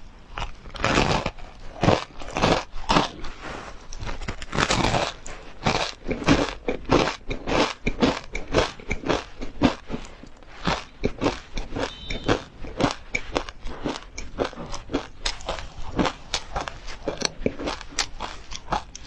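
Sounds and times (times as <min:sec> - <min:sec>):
crunchy ice cream being chewed: 0:00.0 - 0:19.0.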